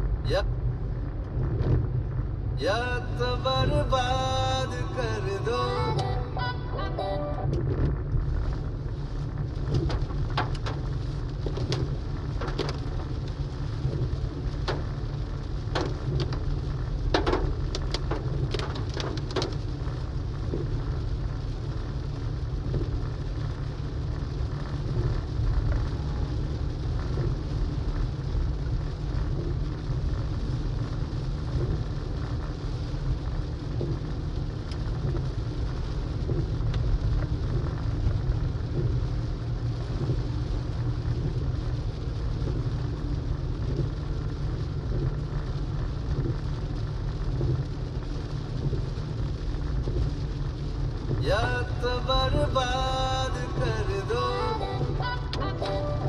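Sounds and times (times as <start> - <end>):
rain on car windshield: 0.0 - 56.0
road noise rumble: 0.0 - 56.0.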